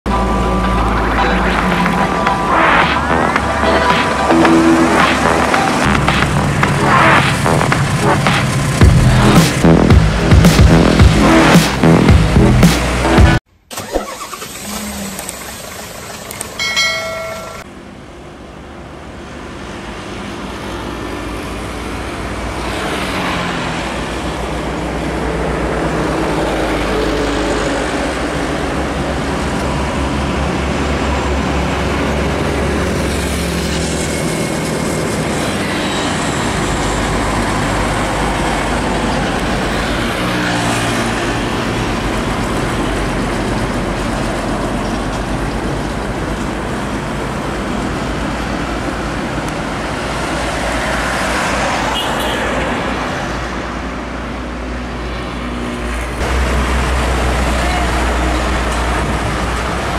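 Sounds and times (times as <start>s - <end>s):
heavy trucks passing: 0.1s - 59.9s.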